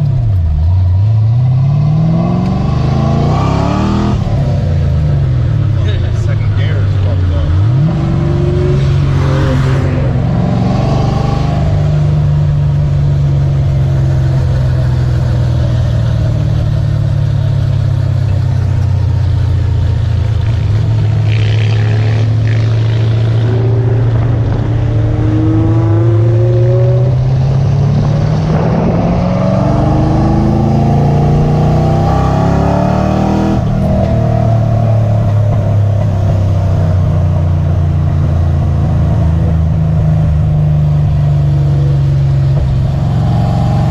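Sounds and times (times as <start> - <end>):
car engine droning: 0.0 - 43.9.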